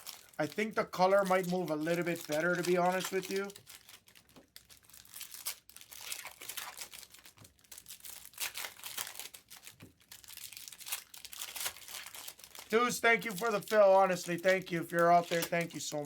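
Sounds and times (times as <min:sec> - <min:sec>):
card pack wrappers crinkling: 0:00.0 - 0:16.0.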